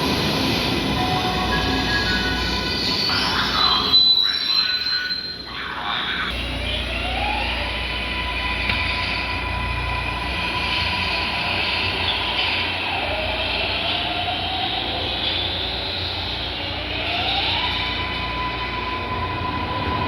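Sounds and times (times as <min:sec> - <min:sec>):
train rumble and rail noise: 0:00.0 - 0:20.0.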